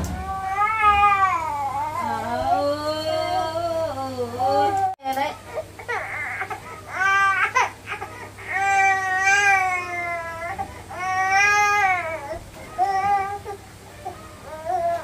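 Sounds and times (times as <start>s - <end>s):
baby crying: 0.0s - 3.5s, 5.4s - 15.0s.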